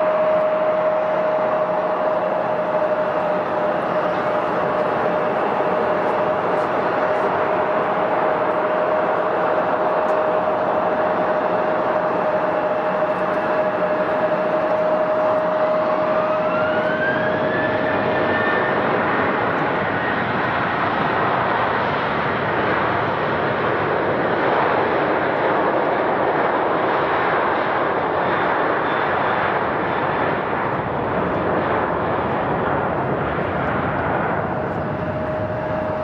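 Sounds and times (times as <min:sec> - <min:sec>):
jet engines roaring: 0:00.0 - 0:36.0
rising jet engine whine: 0:00.0 - 0:36.0.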